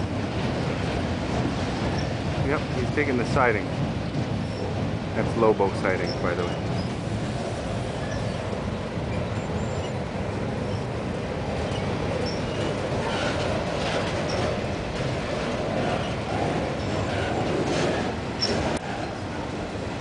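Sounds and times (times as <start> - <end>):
freight train wheels rumbling and rattling: 0.0 - 20.0.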